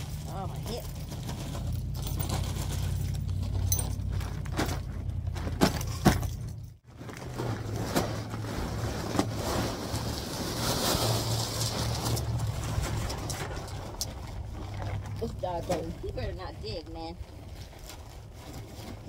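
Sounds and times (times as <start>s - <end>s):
plastic bag of gravel rustling: 0.0s - 5.9s, 6.8s - 19.0s.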